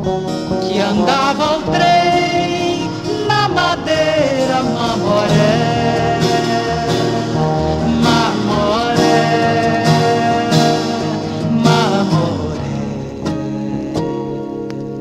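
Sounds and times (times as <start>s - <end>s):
instrumental pop music with guitar: 0.0s - 15.0s.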